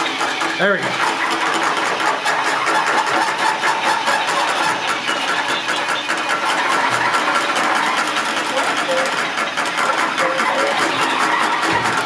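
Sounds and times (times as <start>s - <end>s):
toy robot motors whirring: 0.0s - 12.0s
fast ticking patter: 1.2s - 12.0s.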